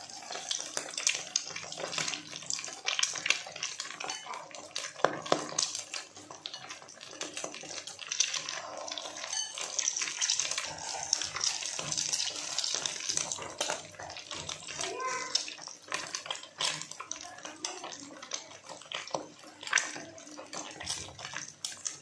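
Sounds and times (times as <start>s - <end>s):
oil sizzling and crackling: 0.0s - 22.0s.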